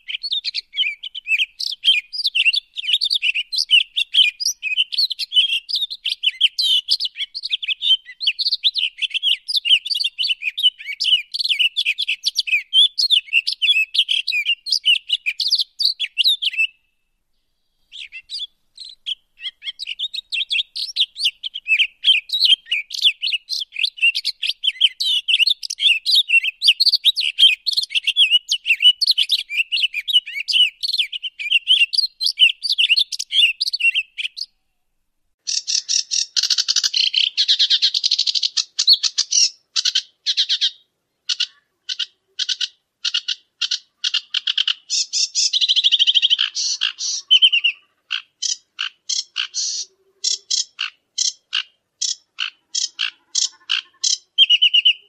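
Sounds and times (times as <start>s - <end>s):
birds chirping in dense chorus: 0.0s - 34.8s, 35.4s - 55.0s.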